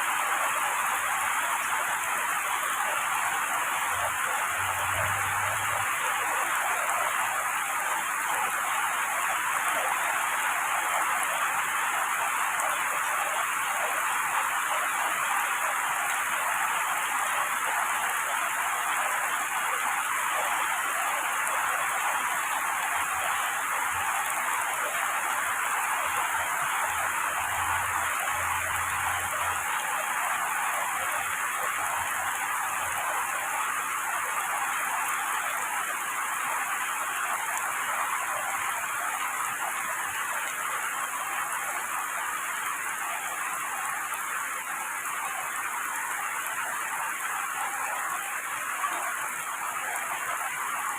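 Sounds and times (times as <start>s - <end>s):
heavy rain on foliage: 0.0s - 50.9s.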